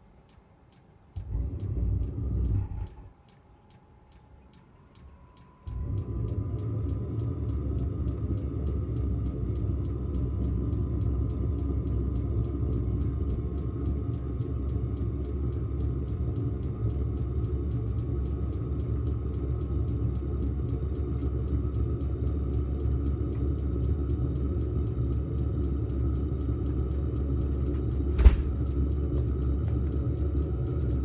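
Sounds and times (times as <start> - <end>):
fan whine: 0.0 - 31.0
fuel pump ticking: 0.0 - 31.0
heater combustion rumble: 0.0 - 31.0.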